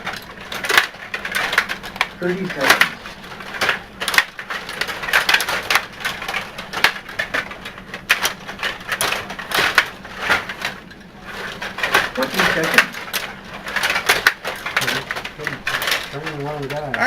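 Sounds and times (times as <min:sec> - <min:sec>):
table hockey clacking: 0:00.0 - 0:17.0.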